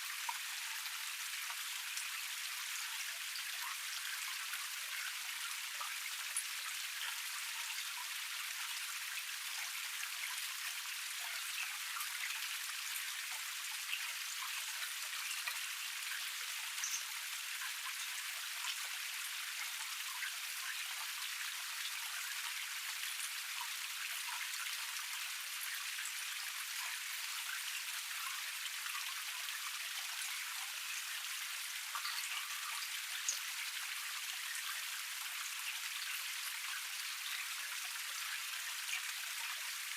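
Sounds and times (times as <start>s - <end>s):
small waterfall cascade: 0.0s - 39.9s.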